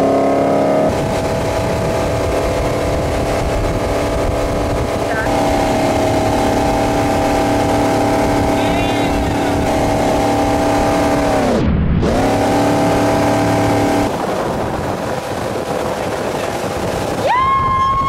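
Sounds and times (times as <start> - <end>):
boat engine running: 0.0 - 18.0
rush of wind and water spray: 0.2 - 18.0.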